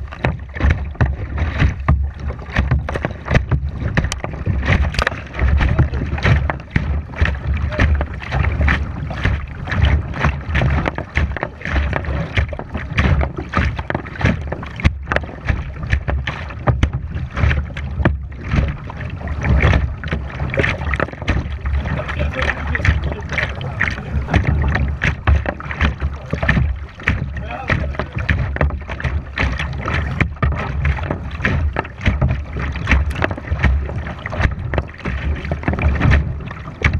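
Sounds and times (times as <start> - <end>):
paddle splashing water: 0.0 - 36.9.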